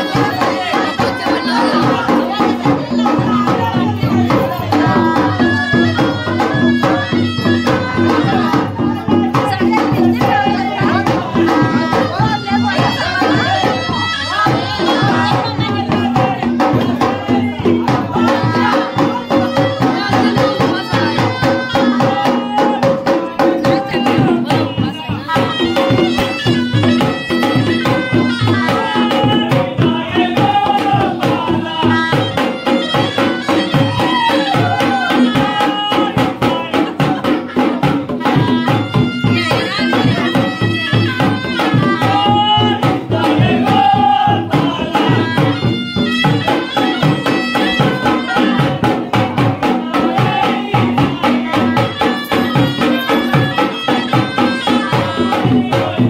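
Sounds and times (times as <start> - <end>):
fast steady drumming: 0.0 - 56.0.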